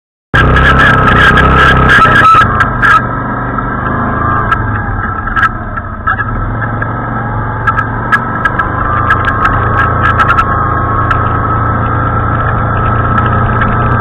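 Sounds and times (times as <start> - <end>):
engine hum with high whine: 0.4 - 14.0.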